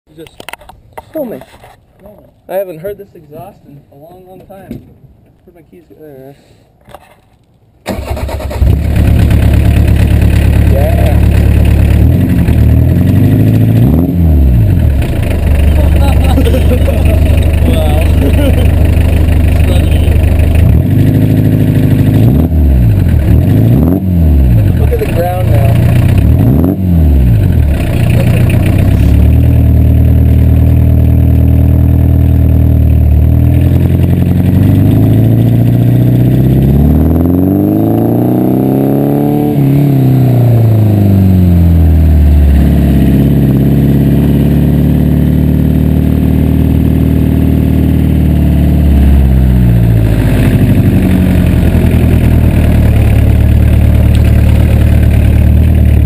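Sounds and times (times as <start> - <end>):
diesel engine driving off: 7.9 - 56.0.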